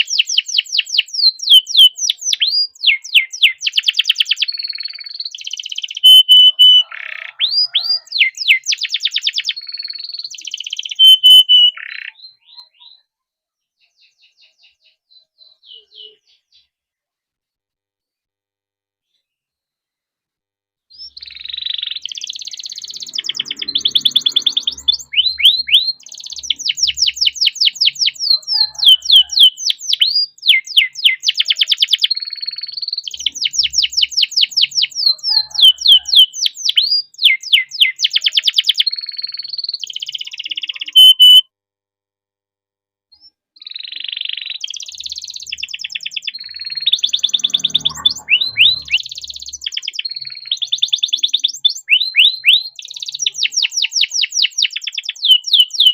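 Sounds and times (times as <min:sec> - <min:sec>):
canary singing trills: 0:00.0 - 0:16.8, 0:20.9 - 0:41.4, 0:43.2 - 0:55.9.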